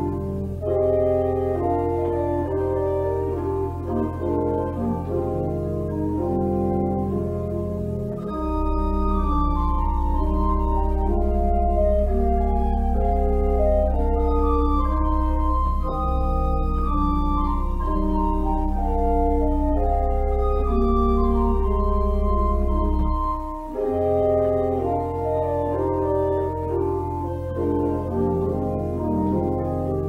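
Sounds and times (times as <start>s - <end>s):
church organ chords: 0.0s - 30.0s
organ pedal bass: 0.0s - 30.0s.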